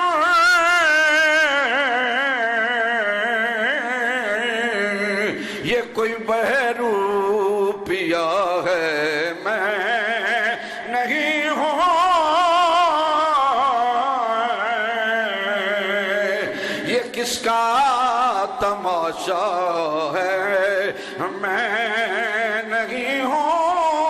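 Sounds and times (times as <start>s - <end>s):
man singing devotional chant: 0.0s - 24.0s.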